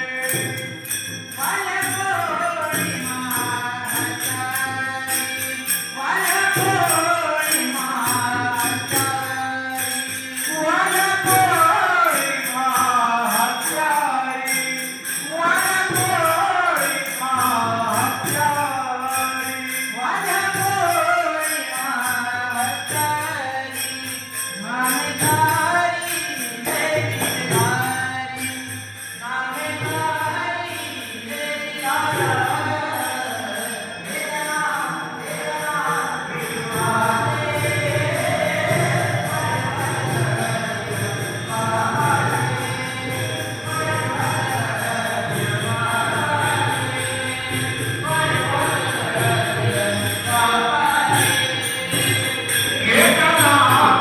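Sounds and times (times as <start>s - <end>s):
jingling percussion: 0.0s - 54.0s.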